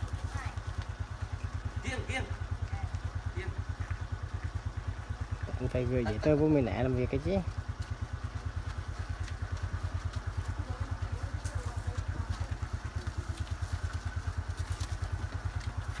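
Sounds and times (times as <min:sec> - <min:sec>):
motorbike engine idling: 0:00.0 - 0:16.0.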